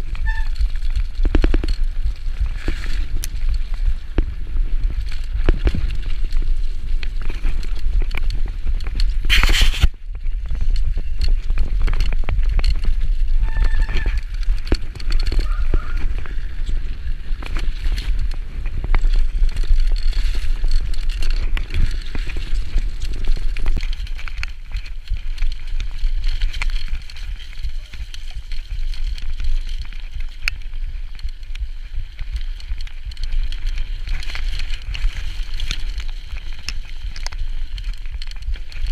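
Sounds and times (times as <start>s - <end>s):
bike rattling: 0.0s - 38.9s
tyres running over loose stones: 0.0s - 38.9s
wind rumble on microphone: 0.0s - 38.9s.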